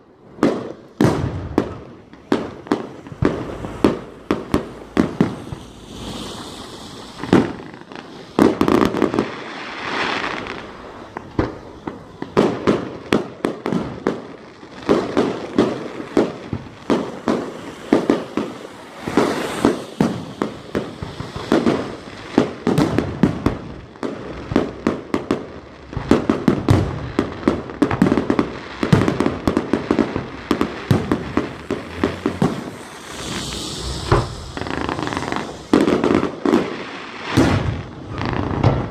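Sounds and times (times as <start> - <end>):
fireworks bangs and pops: 0.0 - 38.9
fireworks hissing crackle: 0.0 - 38.9.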